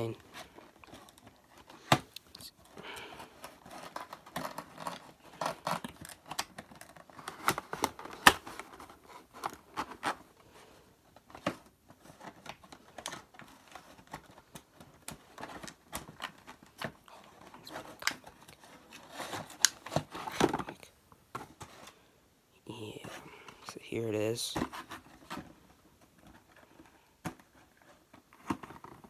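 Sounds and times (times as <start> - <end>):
cardboard and plastic packaging rustling: 0.0 - 22.1, 22.7 - 29.0.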